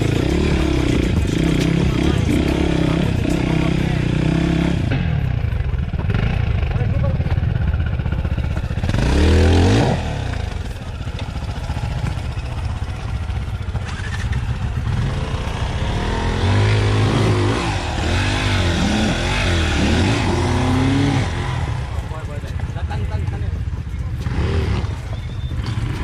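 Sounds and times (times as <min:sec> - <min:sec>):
dirt bike engine revving: 0:00.0 - 0:05.4, 0:06.0 - 0:07.0, 0:08.0 - 0:22.3, 0:24.2 - 0:26.0.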